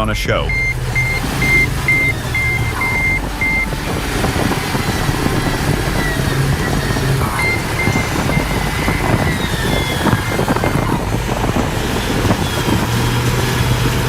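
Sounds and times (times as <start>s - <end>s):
reversing alarm beeping: 0.0s - 13.2s
heavy vehicle engine running: 0.0s - 14.0s.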